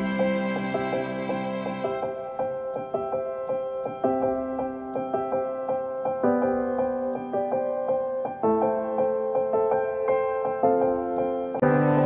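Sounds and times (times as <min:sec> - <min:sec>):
piano playing steady notes: 0:00.0 - 0:12.0.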